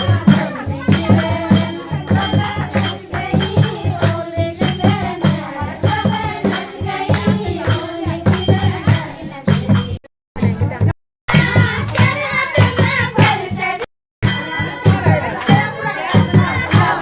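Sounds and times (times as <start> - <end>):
folk singing: 0.0 - 10.0, 11.3 - 17.0
hand percussion strokes: 0.0 - 17.0.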